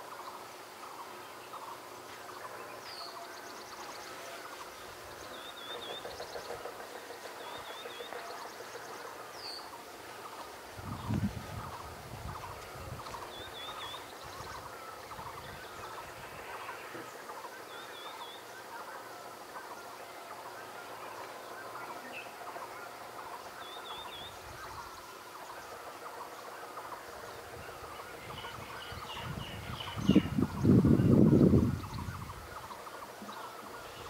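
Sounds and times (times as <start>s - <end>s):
birds chattering and calling: 0.0s - 34.0s.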